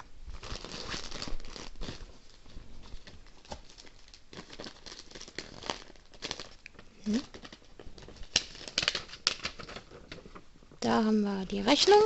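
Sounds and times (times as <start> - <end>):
paper and cardboard rustling: 0.3 - 6.6, 7.2 - 11.1.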